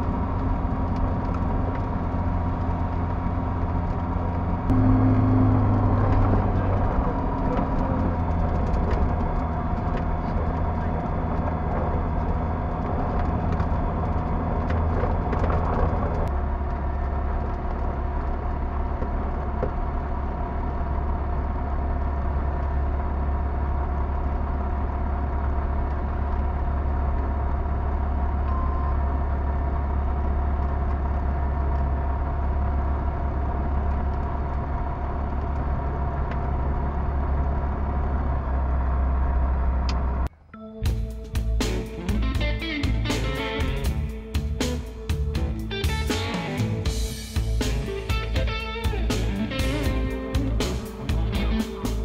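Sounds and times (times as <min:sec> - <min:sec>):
light aircraft engine and propeller: 0:00.0 - 0:40.3, 0:41.2 - 0:52.0.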